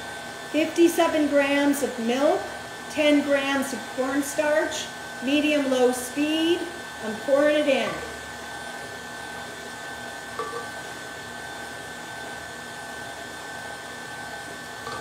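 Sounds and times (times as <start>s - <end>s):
stand mixer motor whirring: 0.0s - 15.0s.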